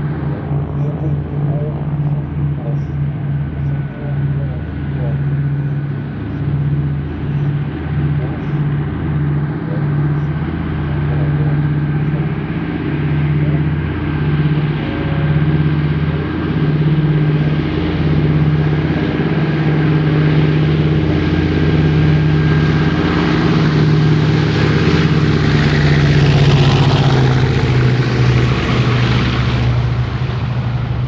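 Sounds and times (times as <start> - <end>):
propeller aircraft engines droning: 0.0 - 31.0.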